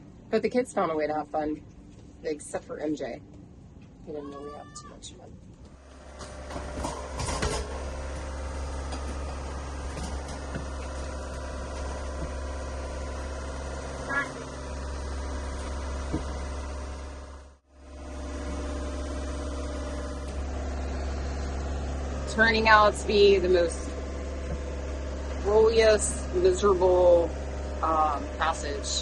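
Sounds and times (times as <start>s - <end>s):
boat engine drone: 5.8s - 29.0s.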